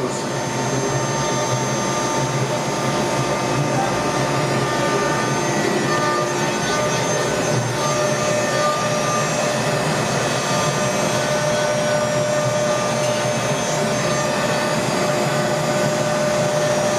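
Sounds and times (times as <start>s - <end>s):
router spindle whine: 0.0s - 16.9s.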